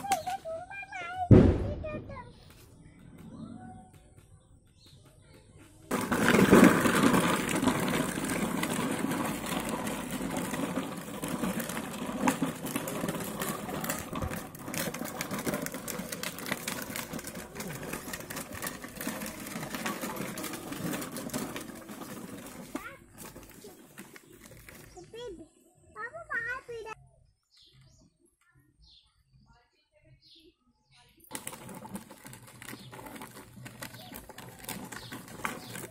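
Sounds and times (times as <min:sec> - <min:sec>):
plastic wheels rattling on dirt: 0:00.0 - 0:25.6, 0:31.2 - 0:35.9.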